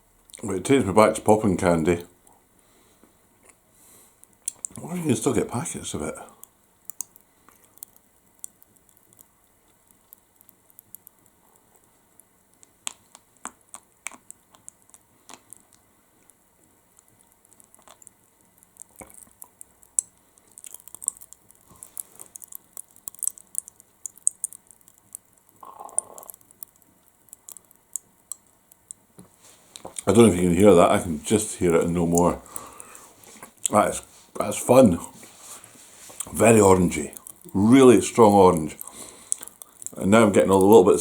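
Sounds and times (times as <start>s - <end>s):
popping candy crackling: 3.3s - 41.0s.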